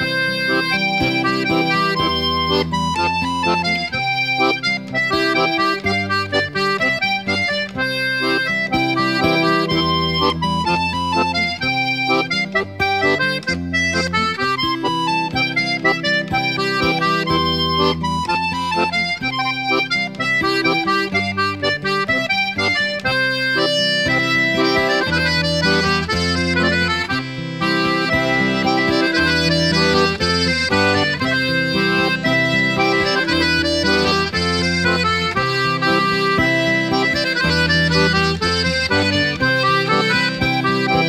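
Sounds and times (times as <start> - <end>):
instrumental background music: 0.0 - 41.0.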